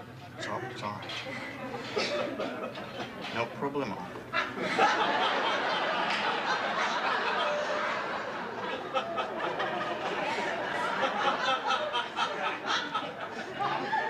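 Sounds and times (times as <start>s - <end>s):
audience laughing: 1.3s - 3.3s, 4.2s - 14.0s.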